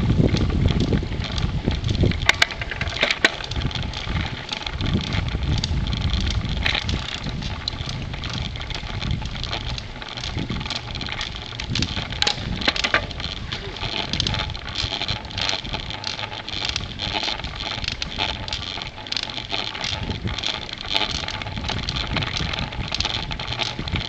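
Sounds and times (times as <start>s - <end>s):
bicycle rattling clicks: 0.0s - 24.0s
tyres rolling on leafy path: 0.0s - 24.0s
wind buffeting microphone: 0.0s - 24.0s.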